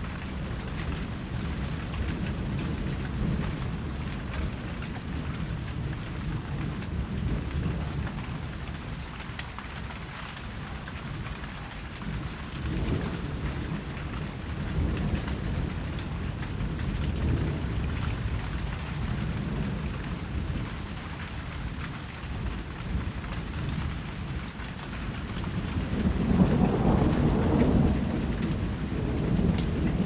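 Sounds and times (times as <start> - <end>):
thunder rumbling: 0.0 - 21.0, 21.7 - 30.0.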